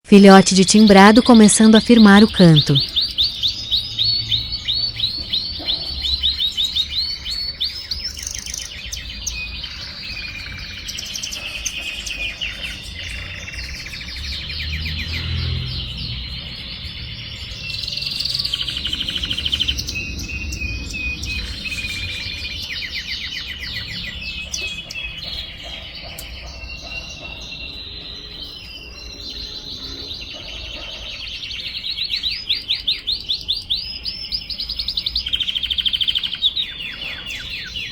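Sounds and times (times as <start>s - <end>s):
canary singing trills: 0.0s - 37.9s.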